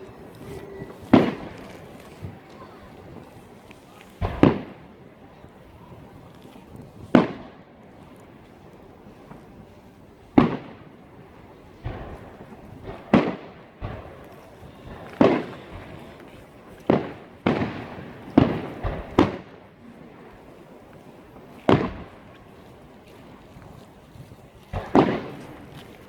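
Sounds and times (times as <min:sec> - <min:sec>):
fireworks bangs with echo: 0:00.0 - 0:08.6, 0:09.2 - 0:23.8, 0:24.7 - 0:26.0.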